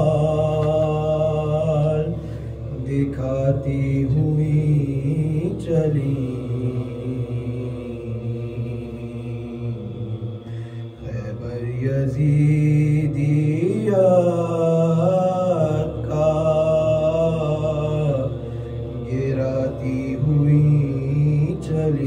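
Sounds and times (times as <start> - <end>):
steady low drone: 0.0 - 22.0.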